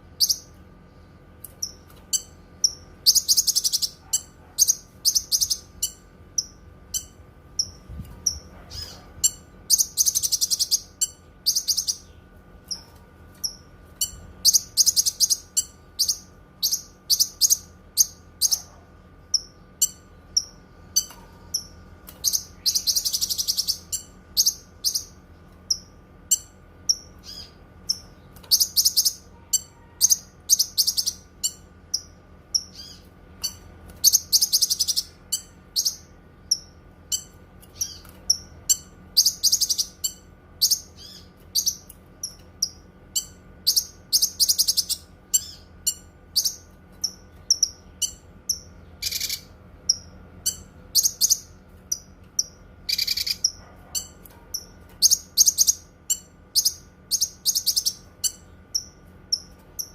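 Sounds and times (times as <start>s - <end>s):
bird singing: 0.2s - 0.6s, 1.5s - 59.9s.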